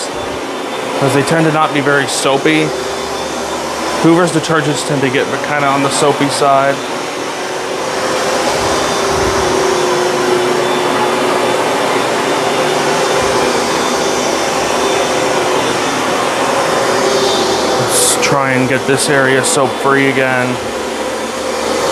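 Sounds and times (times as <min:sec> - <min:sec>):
carpet cleaner motor running: 0:00.0 - 0:21.9.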